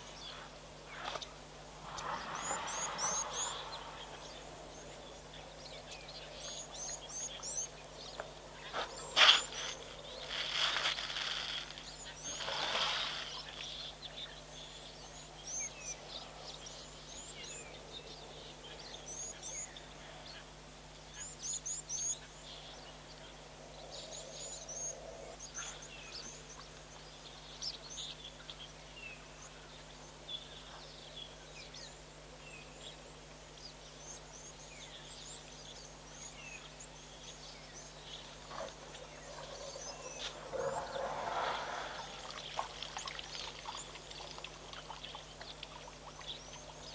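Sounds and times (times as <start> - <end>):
faint steady hum: 0.0 - 46.9
small birds chirping: 0.0 - 46.9.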